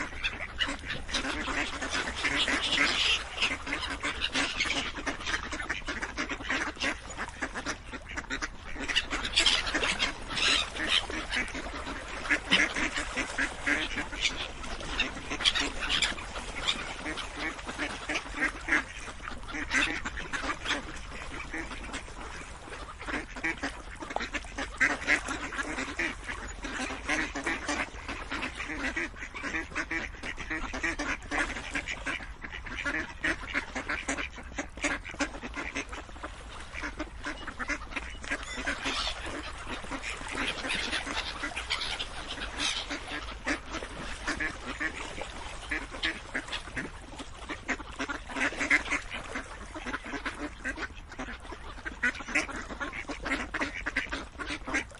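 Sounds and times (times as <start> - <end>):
ducks quacking: 0.0 - 54.9.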